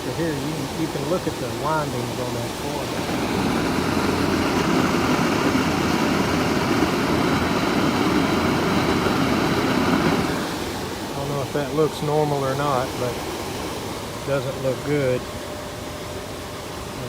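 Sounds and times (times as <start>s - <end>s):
heat pump blower rushing air: 0.0s - 17.0s.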